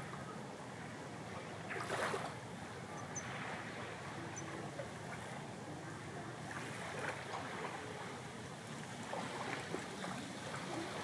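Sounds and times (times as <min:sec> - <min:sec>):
water lapping at shore: 0:00.0 - 0:11.0
small waves breaking: 0:00.6 - 0:11.0.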